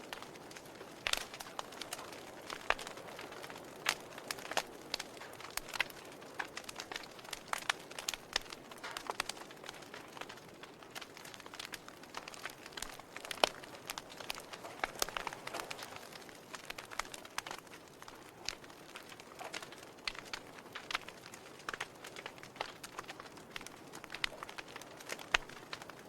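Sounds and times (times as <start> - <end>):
logs crackling in fireplace: 0.0 - 26.0.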